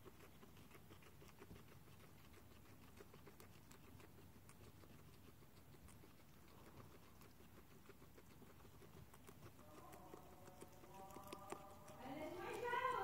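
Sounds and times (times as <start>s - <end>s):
guinea pig chewing: 0.0s - 13.0s.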